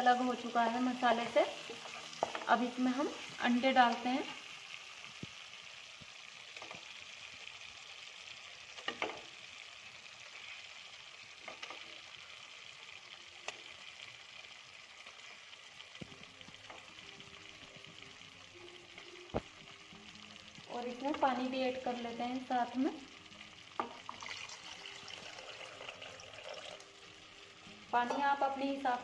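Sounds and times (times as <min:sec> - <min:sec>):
masala sizzling in oil: 0:00.0 - 0:29.0.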